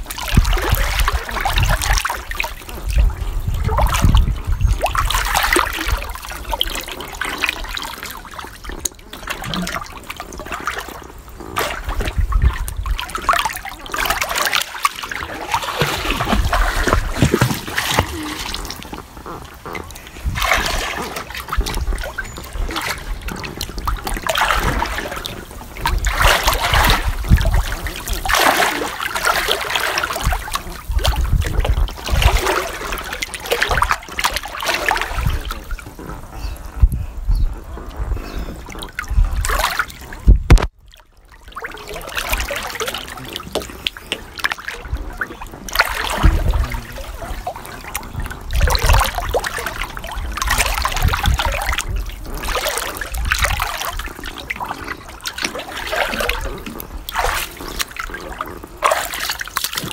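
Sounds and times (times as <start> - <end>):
pool water splashing: 0.0 - 36.8, 37.6 - 59.9.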